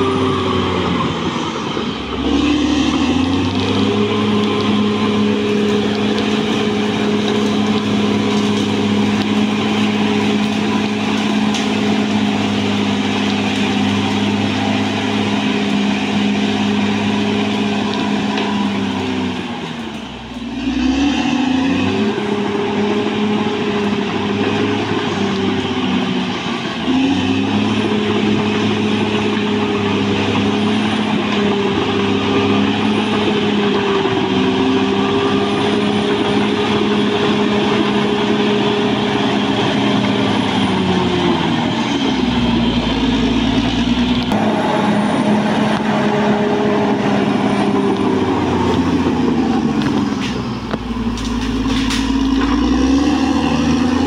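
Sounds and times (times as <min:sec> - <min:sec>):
bulldozer diesel engine drone: 0:00.0 - 0:54.0.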